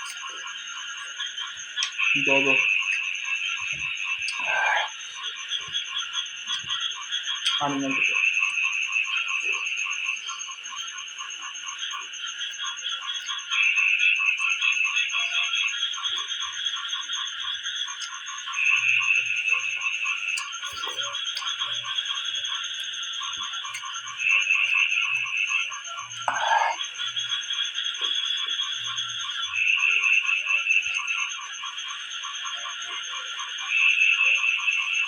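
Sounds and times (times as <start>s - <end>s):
high continuous ringing: 0.0s - 35.0s
loud animal trill: 0.0s - 35.0s
rapid pulsing animal call: 0.0s - 35.0s.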